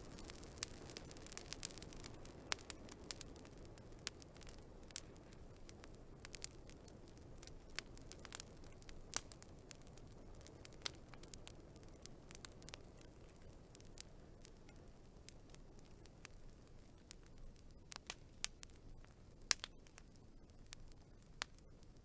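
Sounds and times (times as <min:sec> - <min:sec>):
hiss of burning: 0:00.0 - 0:22.0
wood fire pops and snaps: 0:00.0 - 0:22.0.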